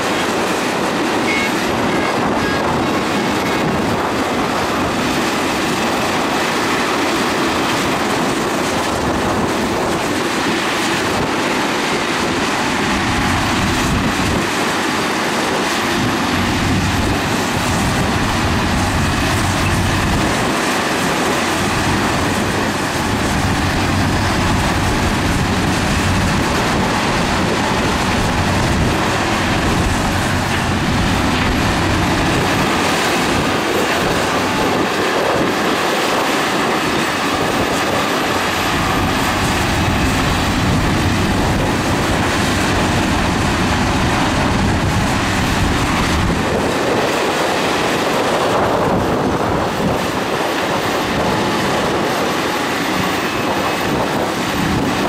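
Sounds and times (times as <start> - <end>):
diesel engines running: 0.0 - 55.0
steel tracks grinding: 0.0 - 55.0.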